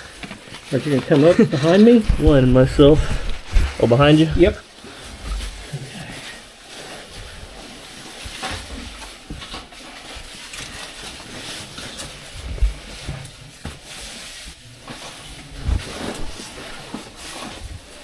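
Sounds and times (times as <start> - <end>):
clothing scraping on rock: 0.0 - 18.0.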